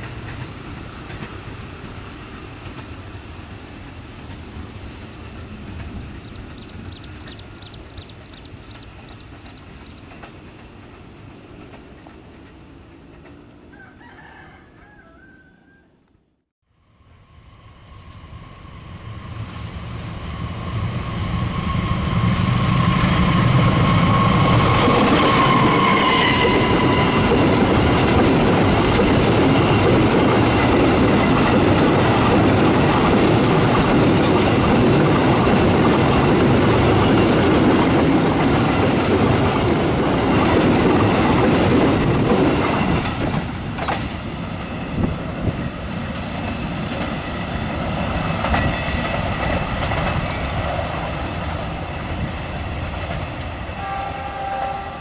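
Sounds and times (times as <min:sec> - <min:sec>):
diesel locomotive approaching: 0:00.0 - 0:14.6, 0:16.7 - 0:55.0.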